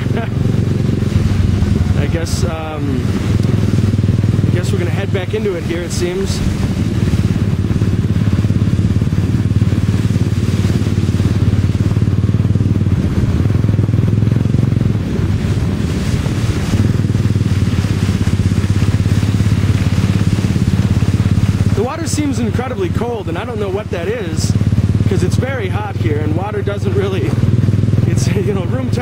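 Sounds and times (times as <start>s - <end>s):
motorbike engine humming: 0.0s - 29.0s
water rushing: 0.0s - 29.0s.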